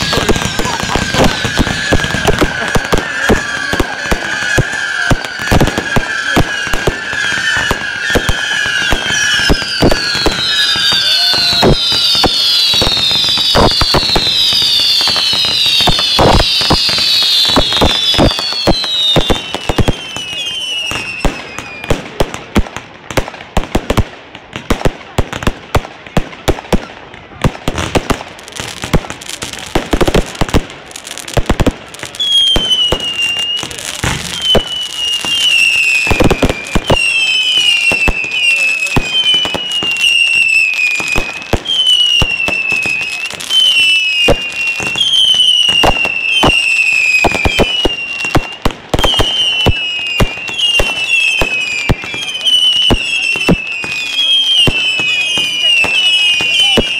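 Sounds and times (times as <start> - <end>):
falling firework whistle: 0.0 - 22.2, 31.2 - 56.9.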